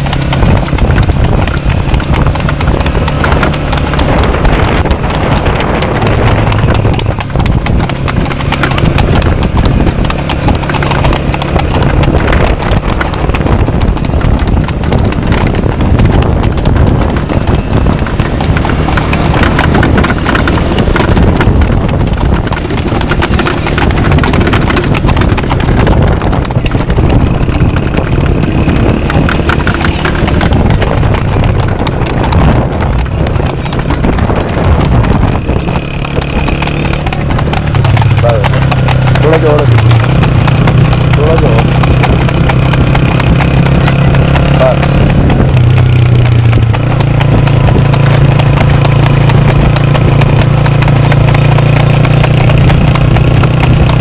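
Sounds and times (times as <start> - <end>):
horse hooves trotting on pavement: 0.0 - 54.0.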